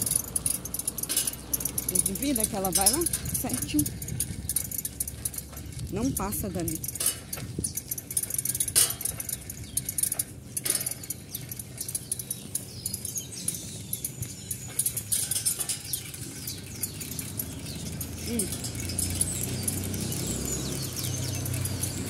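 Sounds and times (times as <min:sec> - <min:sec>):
low steady rumble: 0:00.0 - 0:22.0
small birds chirping: 0:00.0 - 0:22.0.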